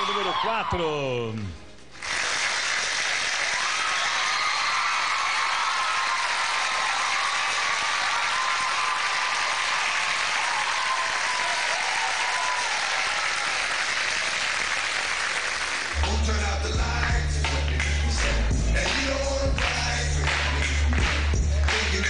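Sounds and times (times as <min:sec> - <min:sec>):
audience applauding: 0:01.9 - 0:16.0, 0:17.4 - 0:22.0.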